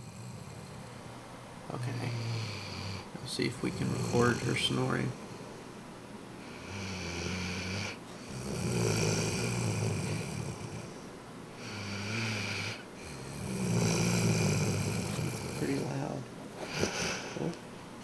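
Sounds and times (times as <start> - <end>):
dog snoring loudly: 0.0 - 1.1, 1.7 - 5.6, 6.4 - 17.6.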